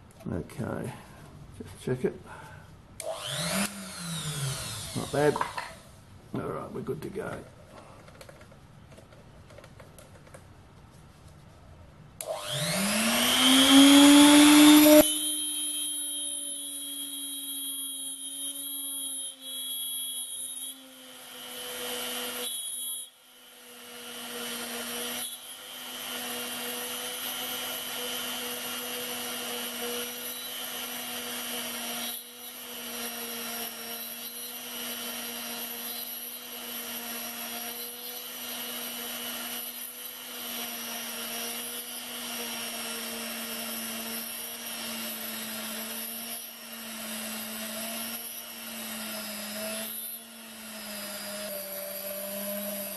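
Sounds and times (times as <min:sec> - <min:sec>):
rotary tool drilling into brass: 0:03.0 - 0:05.8, 0:12.2 - 0:52.9.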